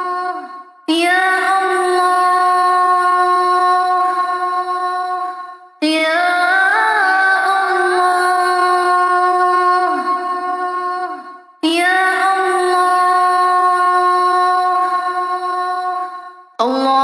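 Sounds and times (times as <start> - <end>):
person singing slow chant: 0.0 - 17.0.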